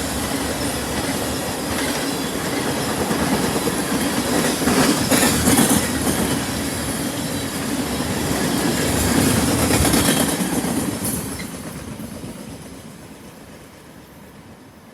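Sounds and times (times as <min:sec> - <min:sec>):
freight train rolling past: 0:00.0 - 0:14.9.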